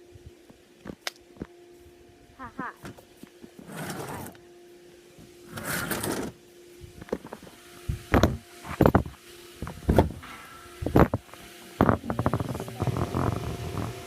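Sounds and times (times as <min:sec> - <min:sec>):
faint steady hum: 0:00.0 - 0:14.0
rustle: 0:00.2 - 0:14.0.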